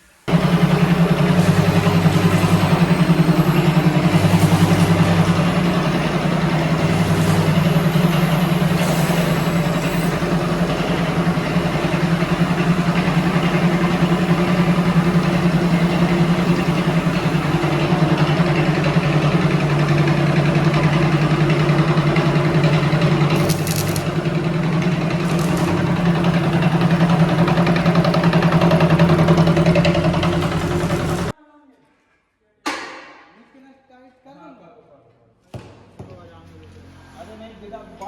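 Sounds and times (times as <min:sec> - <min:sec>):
tractor diesel engine running: 0:00.3 - 0:31.4.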